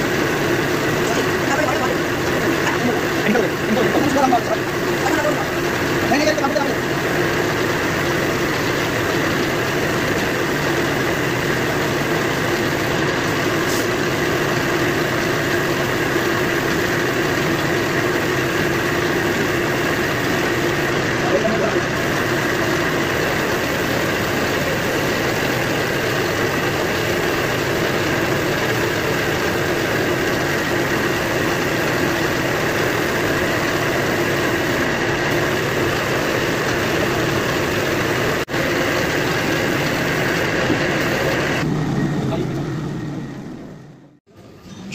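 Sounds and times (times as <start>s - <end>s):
spray gun hissing: 0.0s - 41.6s
motor hum: 0.0s - 44.9s.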